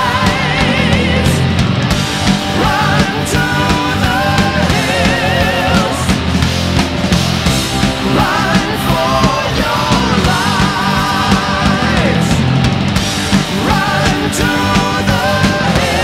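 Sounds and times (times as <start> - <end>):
loud hard rock music: 0.0 - 16.0.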